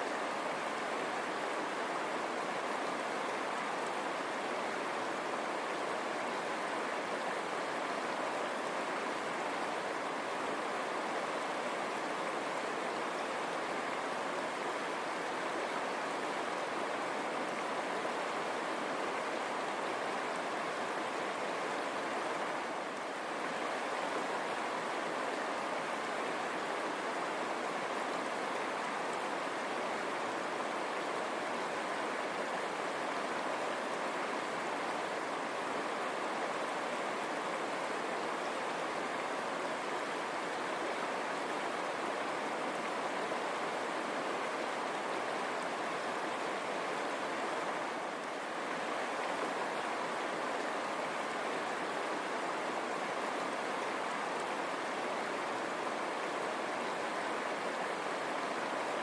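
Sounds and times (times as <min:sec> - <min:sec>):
river water running over stones: 0:00.0 - 0:59.0.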